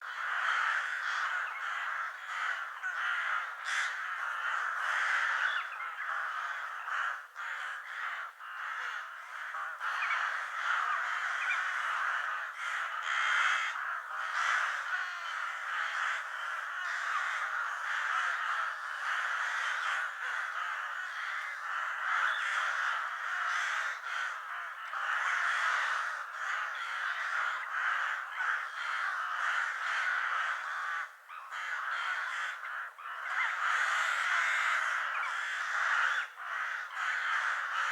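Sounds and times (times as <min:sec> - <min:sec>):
crows cawing: 0:00.0 - 0:37.9.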